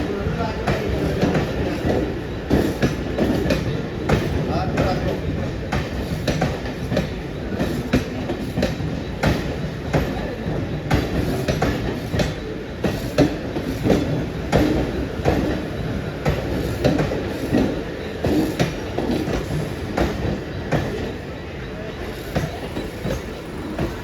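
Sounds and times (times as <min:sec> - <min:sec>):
train rumble: 0:00.0 - 0:24.0
train wheels clacking over rails: 0:00.0 - 0:24.0.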